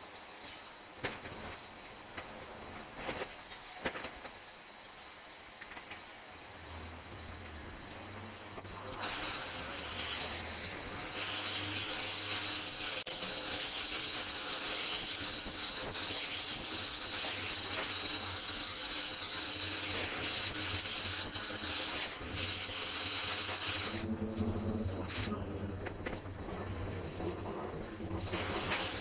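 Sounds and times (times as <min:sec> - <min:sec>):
welding torch flame hissing: 0:00.0 - 0:29.0.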